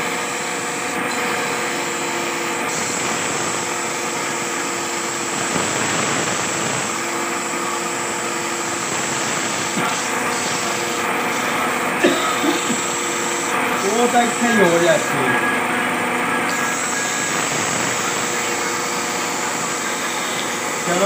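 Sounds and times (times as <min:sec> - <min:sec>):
wood lathe running: 0:00.0 - 0:21.0.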